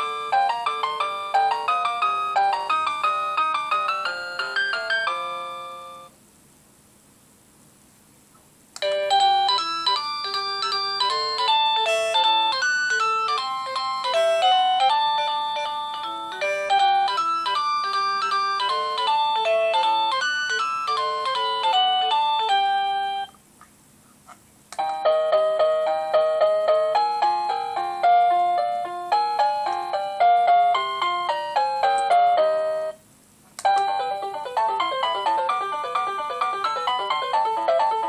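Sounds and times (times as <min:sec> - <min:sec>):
electronic door chime melody: 0:00.0 - 0:06.1, 0:08.8 - 0:23.4, 0:24.8 - 0:33.0, 0:33.7 - 0:37.5.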